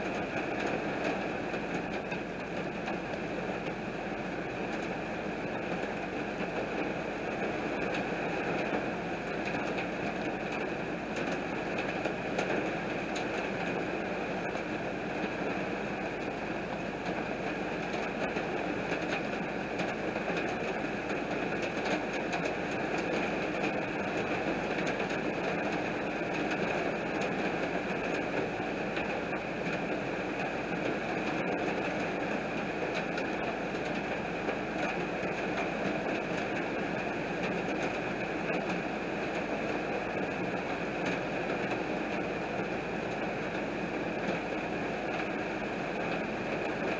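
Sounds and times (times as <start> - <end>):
heavy rain on glass and road: 5.7 - 46.8.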